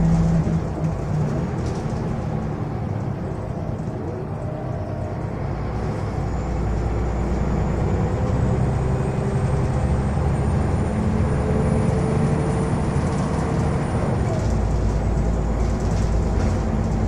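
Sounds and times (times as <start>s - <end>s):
bus engine pulling: 0.0s - 17.0s.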